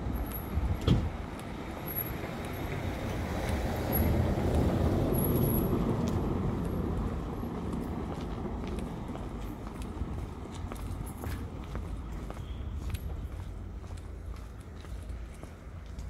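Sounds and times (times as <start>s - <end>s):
city street noise: 0.0s - 16.0s.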